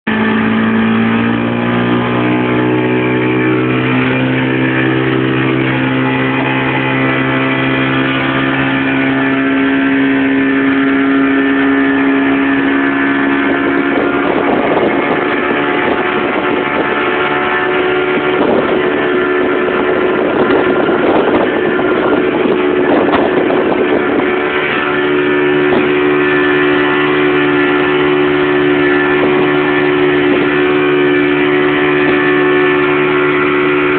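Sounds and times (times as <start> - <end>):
outboard motor running hard: 0.0 - 33.9
hull slapping through water: 0.1 - 33.9.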